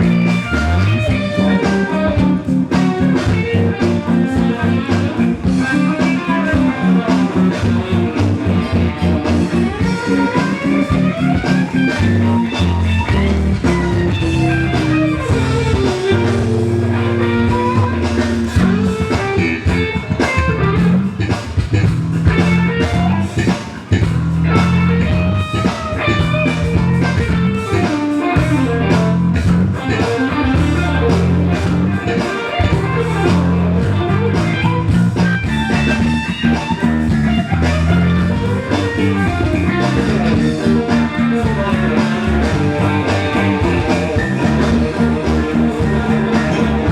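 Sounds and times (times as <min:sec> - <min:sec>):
bass guitar: 0:00.0 - 0:46.9
drum kit: 0:00.0 - 0:46.9
electric guitar lines: 0:00.0 - 0:46.9.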